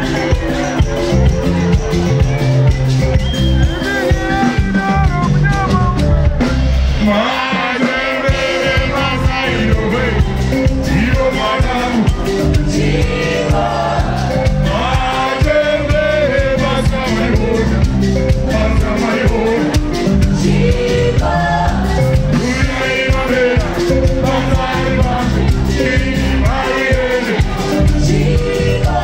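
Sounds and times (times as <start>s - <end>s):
drums: 0.0s - 29.0s
electric guitar: 0.0s - 29.0s
lead singer singing: 3.1s - 29.0s
backing singers: 5.8s - 29.0s.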